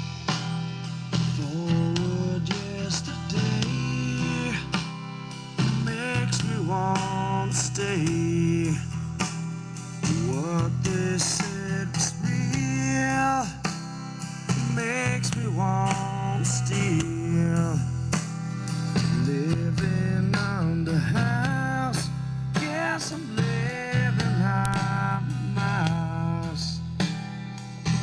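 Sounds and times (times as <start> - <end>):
blues-rock song playback: 0.0 - 28.0.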